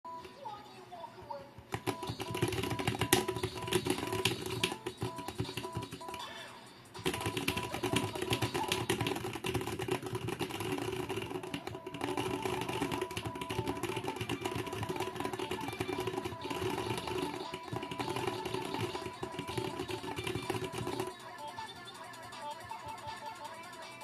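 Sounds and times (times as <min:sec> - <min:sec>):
background music: 0:00.0 - 0:24.0
mechanical keyboard typing: 0:01.7 - 0:06.3, 0:07.0 - 0:21.8.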